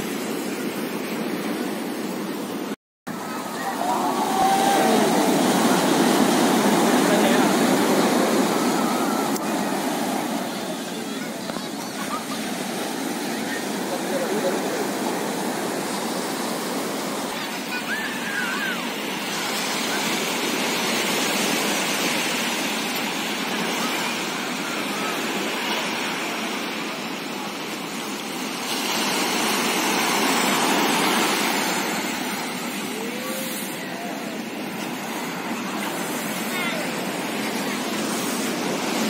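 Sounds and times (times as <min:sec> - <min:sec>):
sea surf breaking on beach: 0:00.0 - 0:39.0.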